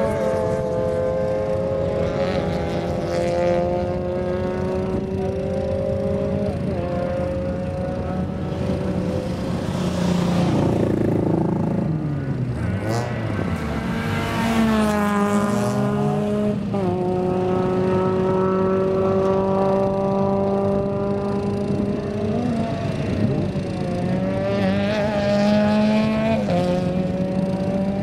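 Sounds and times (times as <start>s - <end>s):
race car engine passing: 0.0s - 28.0s.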